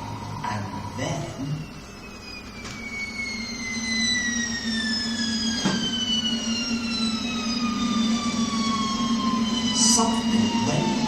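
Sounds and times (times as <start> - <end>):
falling whistle-like tone: 0.0 - 11.0
steady low hum: 0.0 - 11.0.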